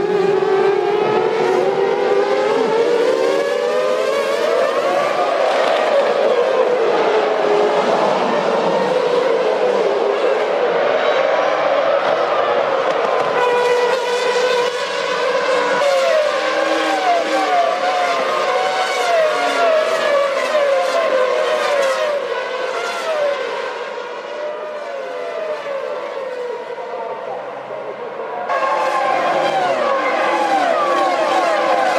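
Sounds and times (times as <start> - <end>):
racing car engines at full throttle: 0.0 - 31.9.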